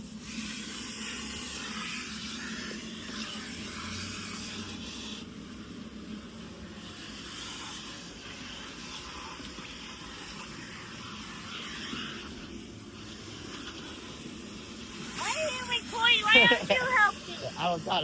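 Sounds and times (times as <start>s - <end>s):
vacuum cleaner running: 0.6s - 18.0s.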